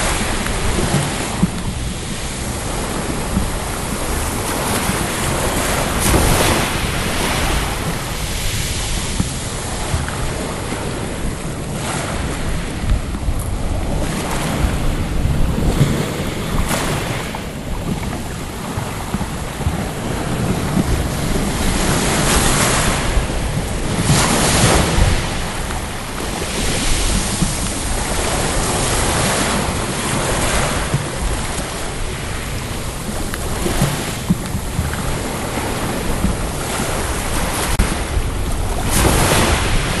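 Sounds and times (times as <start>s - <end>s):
waves breaking on shingle: 0.0s - 40.0s
wind on microphone: 0.0s - 40.0s.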